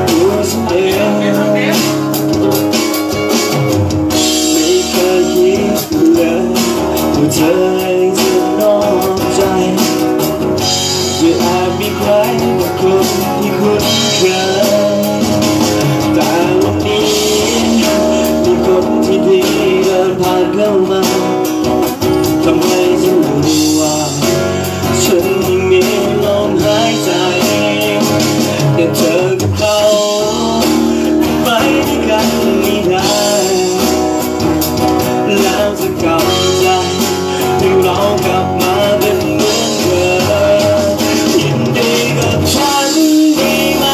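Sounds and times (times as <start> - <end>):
band playing guitar and keyboard: 0.0 - 43.9
person singing: 0.0 - 43.9.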